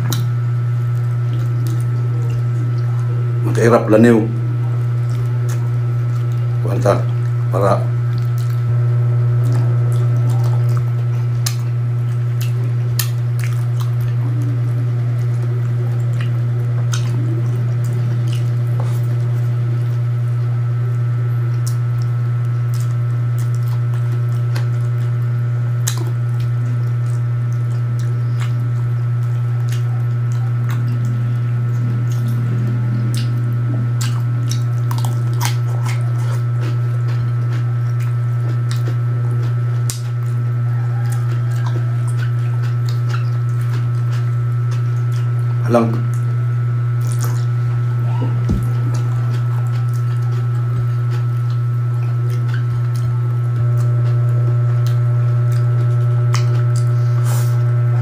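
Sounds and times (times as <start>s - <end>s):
wet chewing and lip-smacking: 0.0s - 3.5s, 4.3s - 58.0s
steady low hum: 0.0s - 58.0s.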